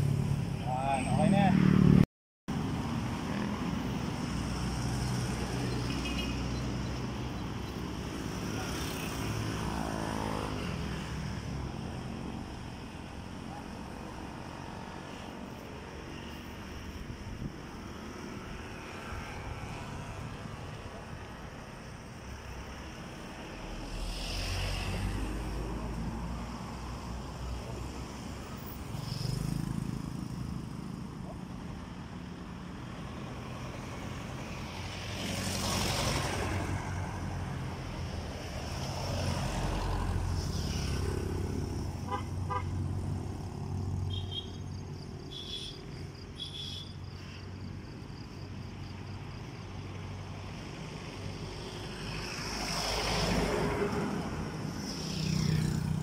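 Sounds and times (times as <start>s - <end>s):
vehicles passing on road: 0.0s - 56.0s.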